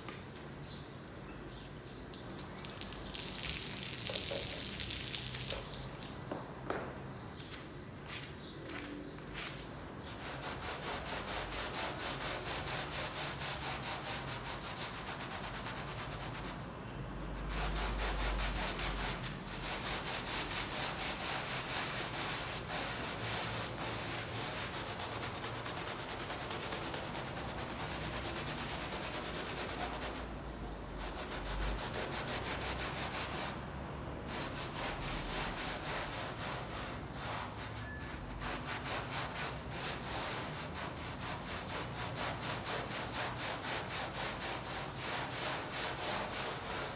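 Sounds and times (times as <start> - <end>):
brush scrubbing wet rug: 2.2 - 6.2, 9.5 - 16.6, 17.3 - 30.3, 30.9 - 33.6, 34.2 - 46.9.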